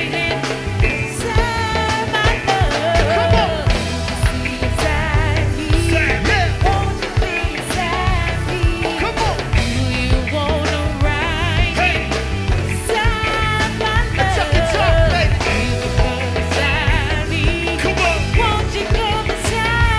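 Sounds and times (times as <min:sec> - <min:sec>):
live band music with heavy beat: 0:00.0 - 0:19.9.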